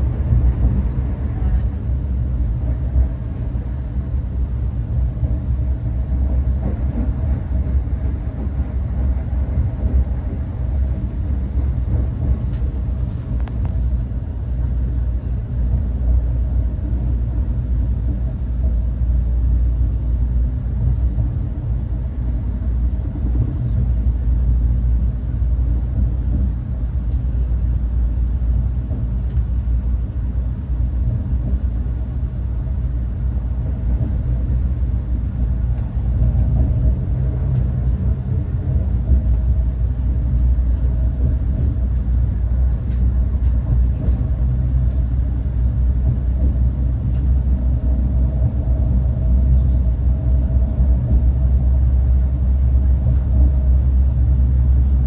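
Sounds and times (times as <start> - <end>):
train rumbling on board: 0.0 - 55.0.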